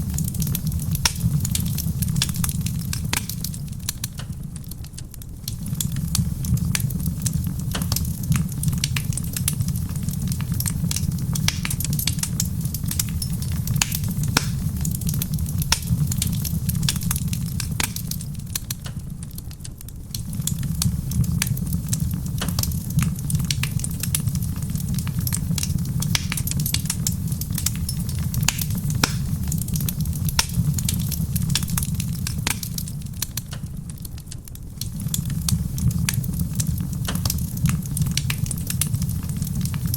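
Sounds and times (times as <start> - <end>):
rain pattering on a roof: 0.0 - 39.9
wood fire crackling and popping: 0.0 - 39.9.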